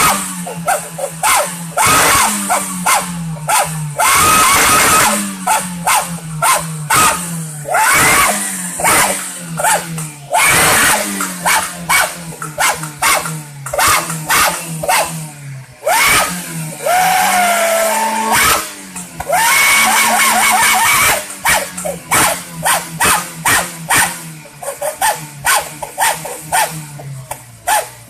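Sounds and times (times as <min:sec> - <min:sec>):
engine revving with whistle exhaust: 0:00.0 - 0:28.0.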